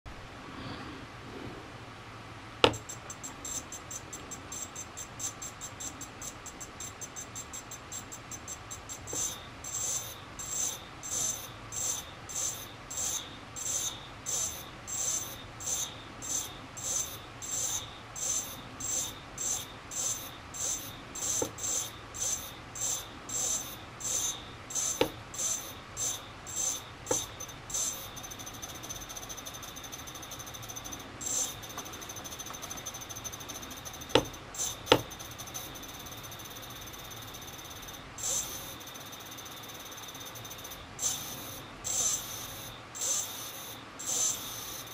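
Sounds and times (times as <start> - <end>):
drone motor chirping and whining: 2.7 - 44.9.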